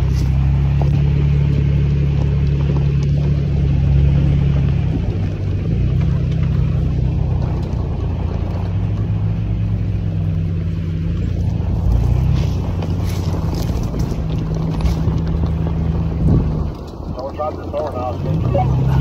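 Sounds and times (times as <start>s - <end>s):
truck engine: 0.0s - 19.0s
tyre and road noise: 0.0s - 19.0s.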